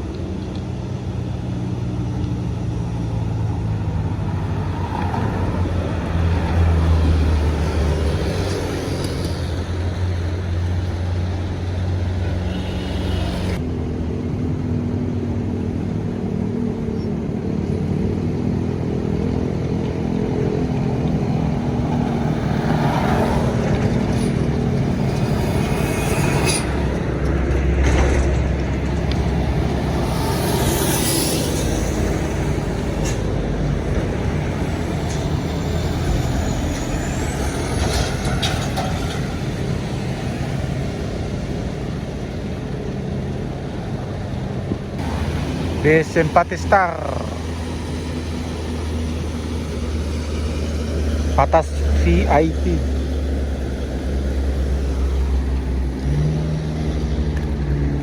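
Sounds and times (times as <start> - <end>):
bus and truck engines humming: 0.0 - 58.0.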